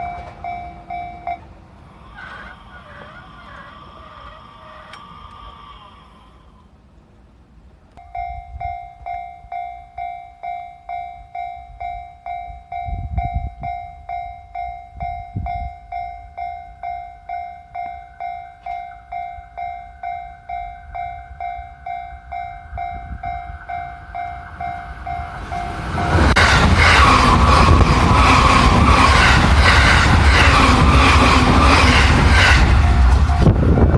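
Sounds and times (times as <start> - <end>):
train arriving: 0.0 - 33.9.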